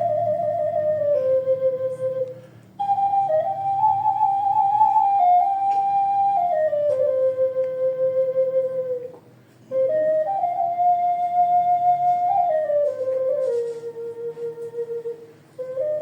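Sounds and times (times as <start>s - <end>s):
ocarina slow melody: 0.0s - 16.0s.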